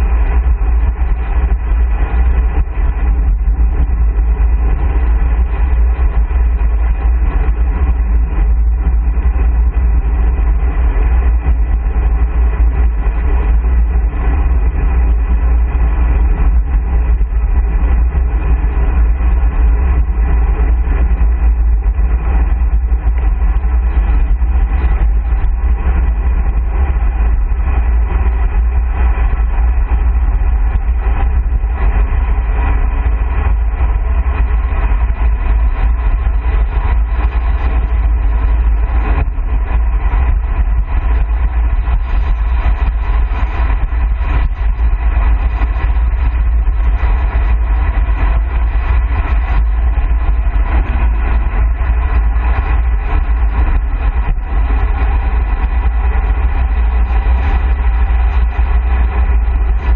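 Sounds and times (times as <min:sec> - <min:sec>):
heavy wind buffeting microphone: 0:00.0 - 0:59.9.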